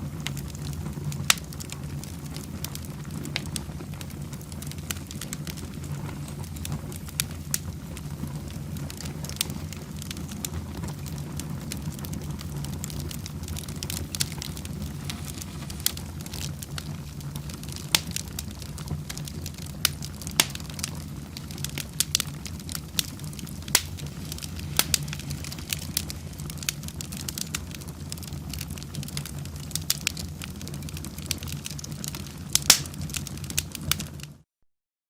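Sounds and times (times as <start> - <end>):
low rumble of flames: 0.0 - 34.4
wood fire crackling and popping: 0.0 - 34.4.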